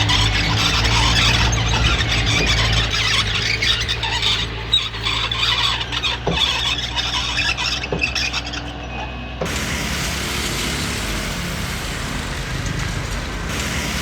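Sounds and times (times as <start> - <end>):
bulldozer diesel engine running: 0.0 - 14.0
steel tracks squealing: 0.0 - 14.0.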